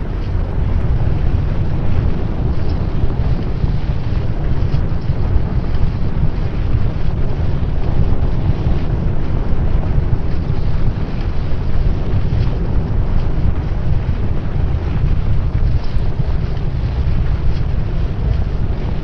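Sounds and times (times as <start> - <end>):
loud low rumble: 0.0 - 19.0
wind buffeting microphone: 0.0 - 19.0.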